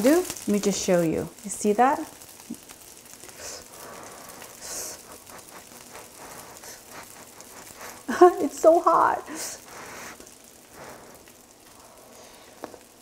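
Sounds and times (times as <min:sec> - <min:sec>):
fried rice sizzling in a pan: 0:00.0 - 0:13.0.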